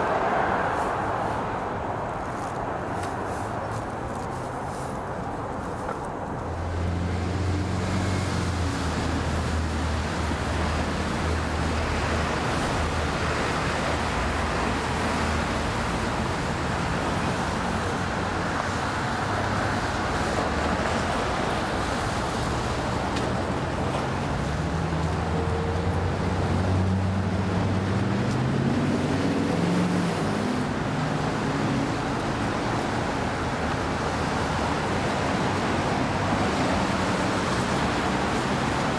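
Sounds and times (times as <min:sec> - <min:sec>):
street traffic rush: 0:00.0 - 0:38.9.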